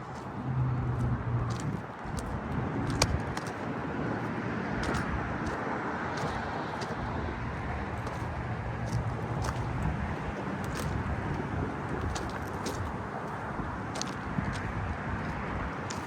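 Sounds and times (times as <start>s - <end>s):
steady vehicle noise: 0.0s - 16.0s.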